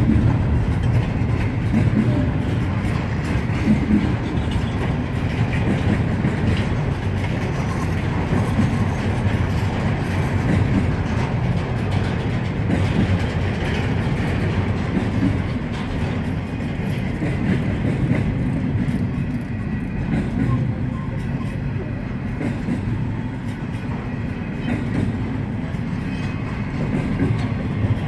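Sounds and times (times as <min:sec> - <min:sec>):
steel wheels rumbling on rails: 0:00.0 - 0:28.0.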